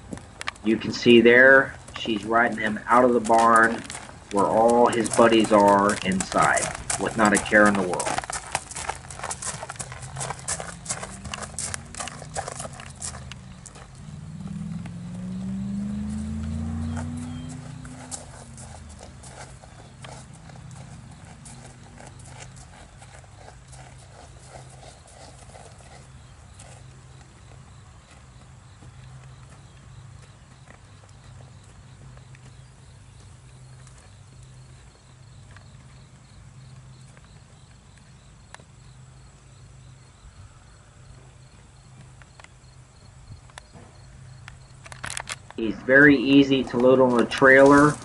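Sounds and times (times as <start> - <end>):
hooves crunching on gravel: 0.0 - 48.0
insects chirping: 0.0 - 48.0
steady low hum: 0.0 - 48.0.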